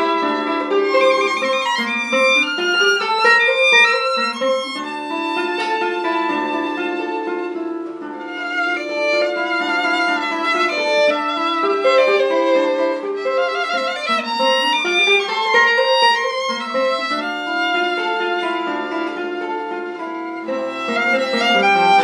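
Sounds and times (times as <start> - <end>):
plucked guitar accompaniment: 0.0 - 22.0
violin melody with vibrato: 0.0 - 22.0.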